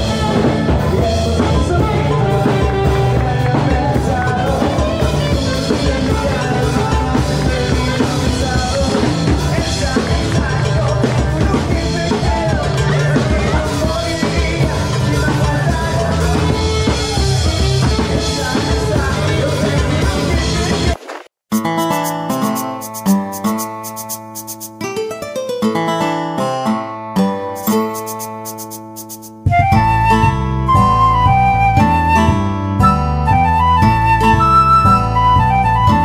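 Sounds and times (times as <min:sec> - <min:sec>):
music with drum beat and bass: 0:00.0 - 0:24.9, 0:27.6 - 0:36.0.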